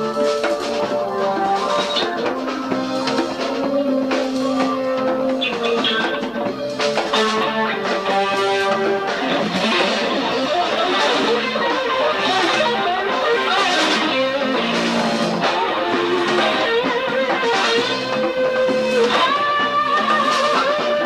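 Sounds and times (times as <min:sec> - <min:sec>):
bass guitar: 0:00.0 - 0:21.0
drums: 0:00.0 - 0:21.0
electric guitar: 0:00.0 - 0:21.0.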